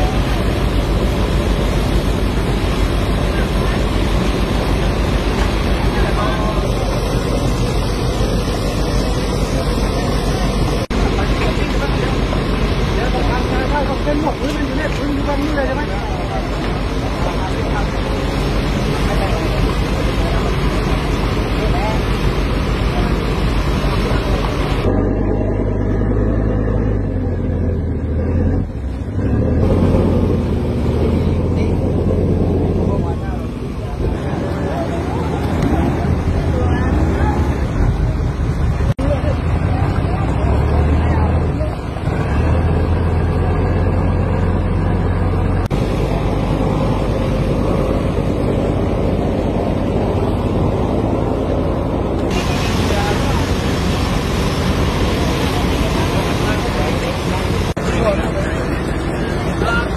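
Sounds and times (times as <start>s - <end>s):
boat engine humming: 0.0s - 59.9s
outboard motors droning: 0.0s - 59.9s.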